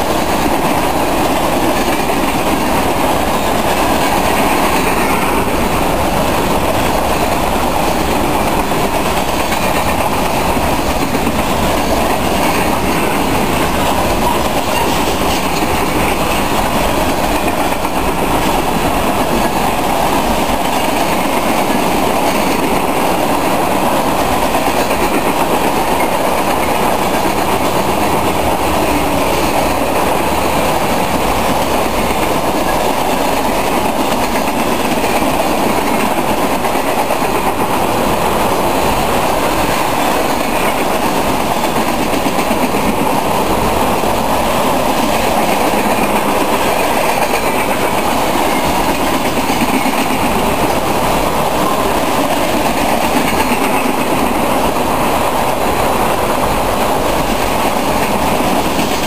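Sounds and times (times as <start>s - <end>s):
freight train cars rolling past: 0.0s - 59.0s.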